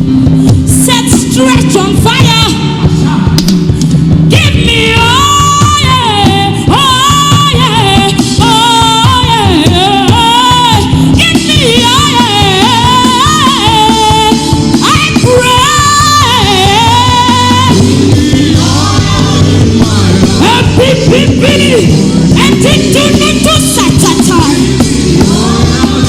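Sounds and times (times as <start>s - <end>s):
band accompaniment: 0.0s - 26.0s
woman singing: 0.7s - 3.3s, 4.3s - 26.0s.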